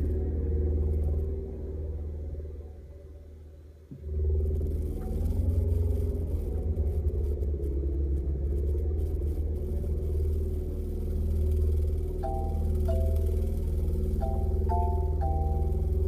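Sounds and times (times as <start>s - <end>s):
deep rumbling drone: 0.0s - 16.0s.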